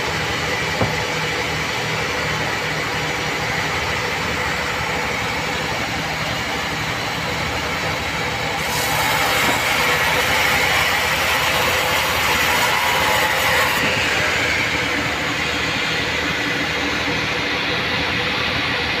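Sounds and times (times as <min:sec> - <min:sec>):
band saw cutting a log: 0:00.0 - 0:19.0.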